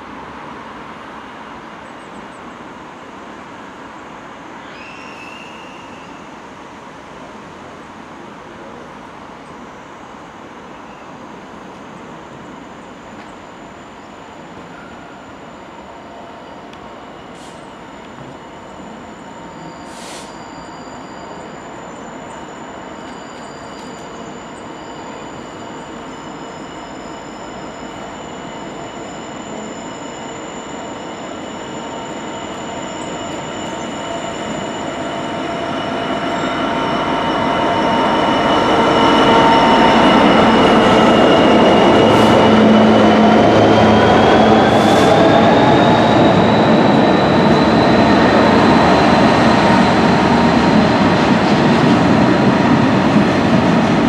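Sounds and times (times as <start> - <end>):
wheels squealing on rails: 4.5 - 6.8, 10.6 - 54.0
diesel locomotive and wagons rumbling: 6.4 - 54.0.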